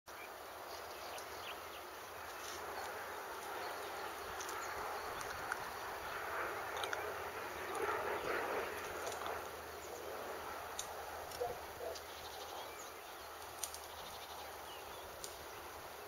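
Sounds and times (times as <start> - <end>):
steady rushing hiss: 0.2 - 16.0.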